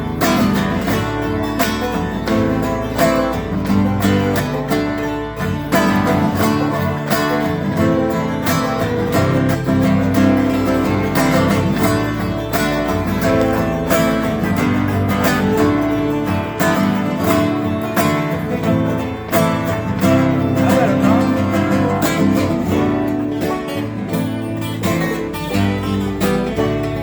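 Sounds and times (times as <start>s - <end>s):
acoustic country band playing: 0.0s - 27.0s
acoustic guitar strumming and picking: 0.0s - 27.0s.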